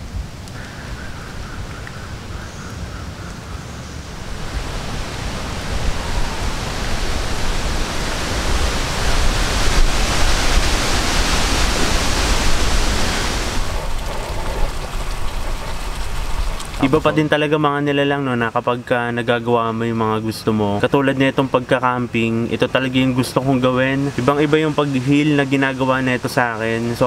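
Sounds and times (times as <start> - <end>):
wind rushing through leaves: 0.0 - 27.0.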